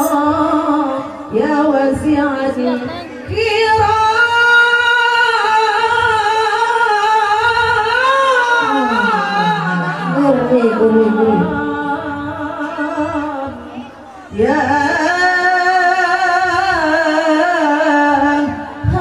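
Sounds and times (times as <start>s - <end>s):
women singing devotional chant: 0.0s - 19.0s.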